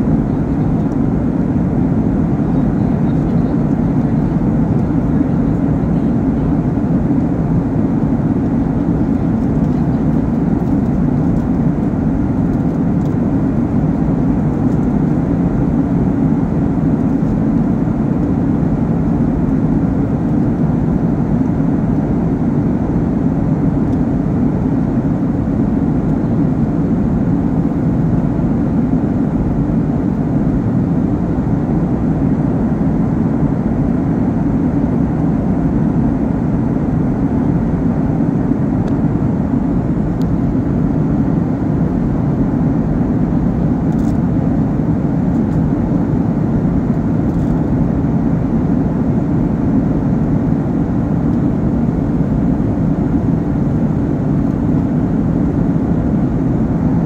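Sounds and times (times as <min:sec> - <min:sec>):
jet airliner cabin noise: 0:00.0 - 0:57.0.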